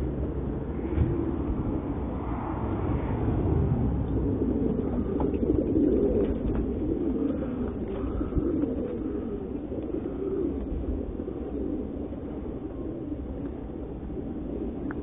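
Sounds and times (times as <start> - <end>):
low steady rumble: 0.0 - 15.0
pigeons cooing: 0.0 - 15.0.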